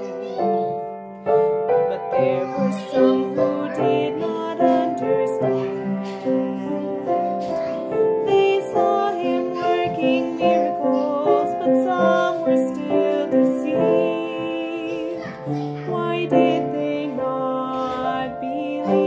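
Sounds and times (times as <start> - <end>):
piano accompaniment: 0.0 - 19.0
woman singing a lullaby: 1.5 - 19.0.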